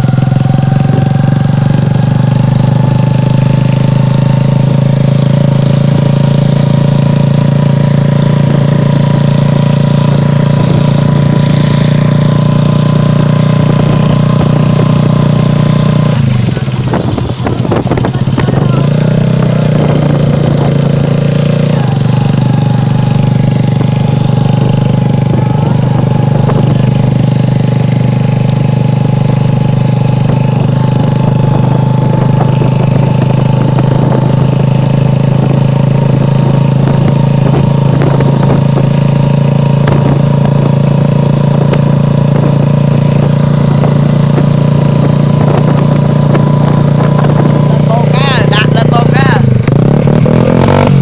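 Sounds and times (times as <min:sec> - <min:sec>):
motorbike engine running: 0:00.0 - 0:51.0.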